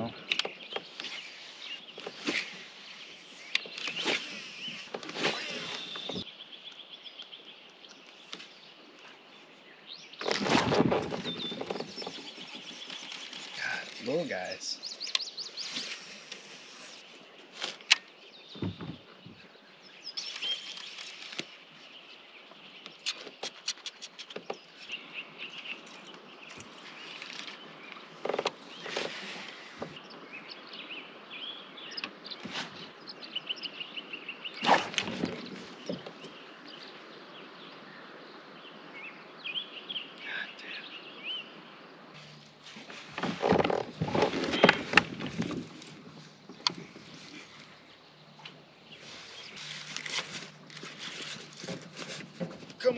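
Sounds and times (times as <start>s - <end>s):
faint outdoor ambience: 0.0s - 52.9s
small birds chirping: 0.0s - 52.9s.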